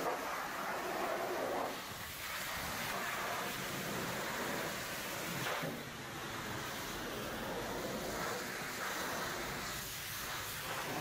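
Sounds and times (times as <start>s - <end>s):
pressure washer spray hissing: 0.0s - 11.0s.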